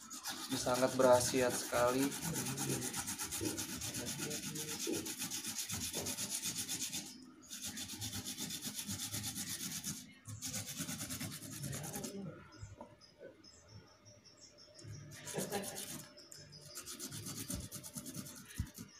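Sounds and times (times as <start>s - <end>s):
root rasping on hand grater: 0.0s - 12.2s, 15.1s - 18.9s.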